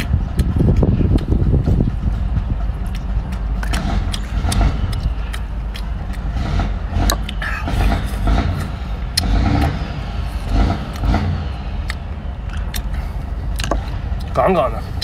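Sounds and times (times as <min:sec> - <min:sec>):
man sucking and chewing: 0:00.0 - 0:15.0
steady low rumble: 0:00.0 - 0:15.0.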